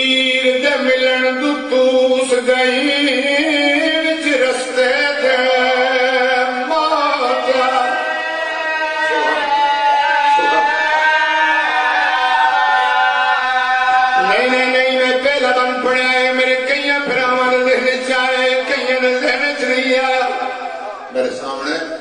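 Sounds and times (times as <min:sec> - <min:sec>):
man chanting through microphone: 0:00.0 - 0:12.3, 0:13.3 - 0:22.0.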